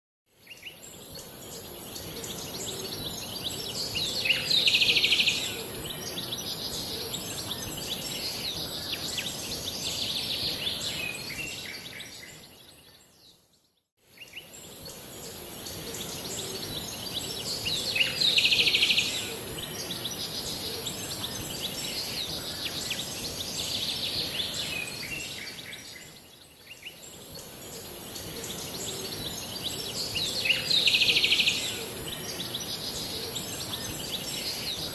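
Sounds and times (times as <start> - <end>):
steady high hiss: 0.4 - 12.6, 14.0 - 34.9
birds chirping: 0.5 - 13.6, 14.2 - 34.9.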